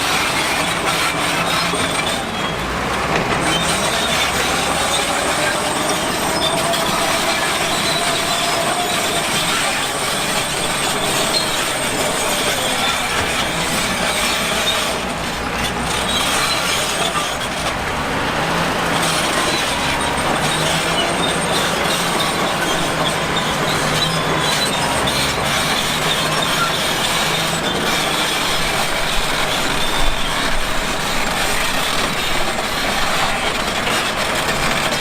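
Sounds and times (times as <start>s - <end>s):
heavy construction machinery engine: 0.0s - 35.0s
metallic squealing and clatter: 0.0s - 35.0s.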